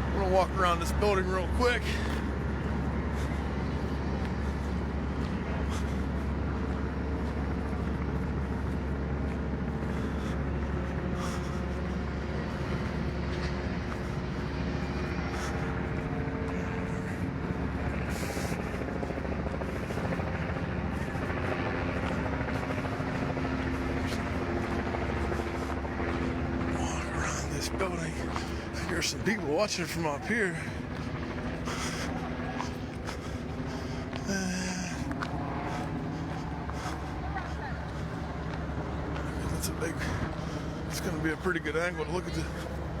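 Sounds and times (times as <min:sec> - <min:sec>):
fire truck engines running: 0:00.0 - 0:43.0.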